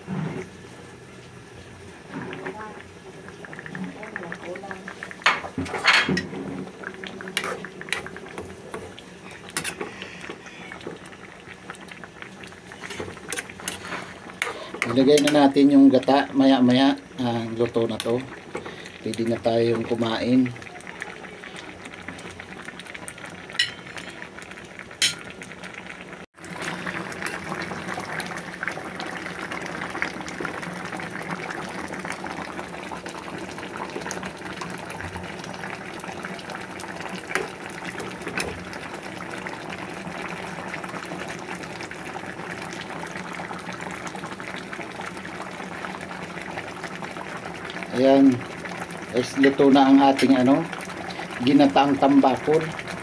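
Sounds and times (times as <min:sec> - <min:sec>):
stew bubbling in metal pan: 0:01.5 - 0:53.0.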